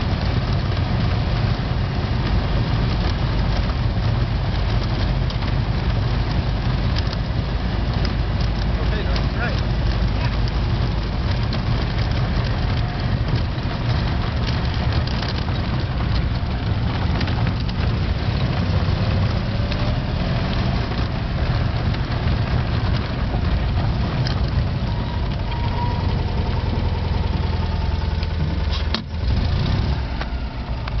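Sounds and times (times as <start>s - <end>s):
car driving on gravel: 0.0s - 31.0s
car engine running: 0.0s - 31.0s.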